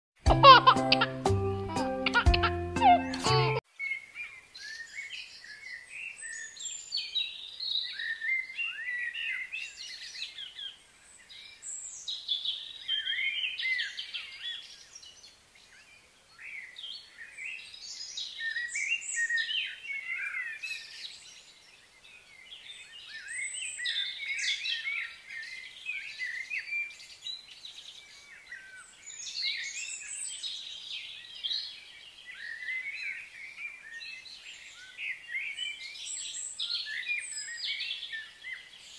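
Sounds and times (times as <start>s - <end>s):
birds chirping and singing: 0.4s - 38.9s.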